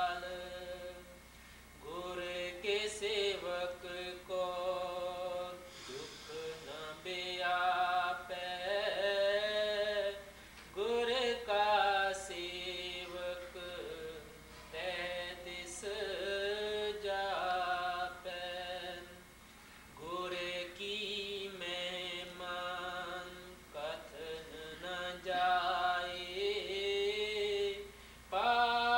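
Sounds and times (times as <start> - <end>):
man chanting a hymn: 0.0 - 1.2, 1.8 - 19.2, 20.0 - 28.9.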